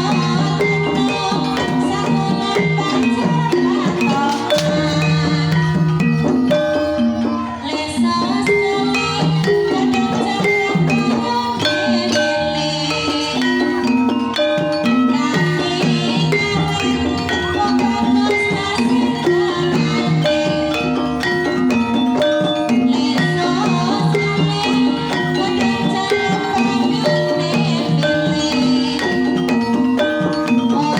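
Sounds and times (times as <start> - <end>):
drums: 0.0 - 30.9
tuned mallet percussion: 0.0 - 30.9.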